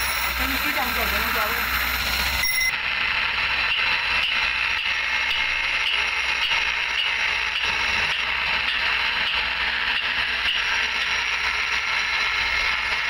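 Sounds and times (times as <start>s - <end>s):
grinding wheel grinding steel: 0.0s - 13.0s.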